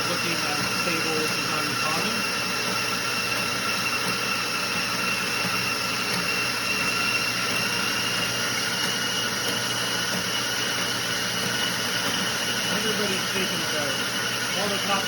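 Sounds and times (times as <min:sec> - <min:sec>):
treadmill motor whine: 0:00.0 - 0:15.0.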